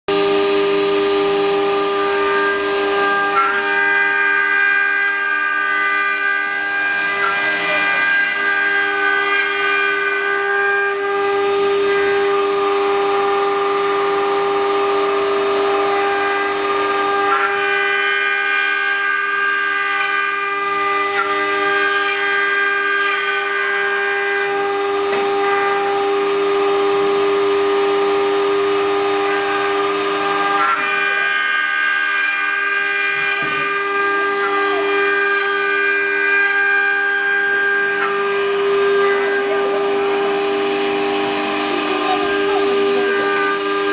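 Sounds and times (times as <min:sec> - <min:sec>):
router spindles whining: 0:00.1 - 0:43.9
rasp of wood being cut: 0:00.2 - 0:43.9.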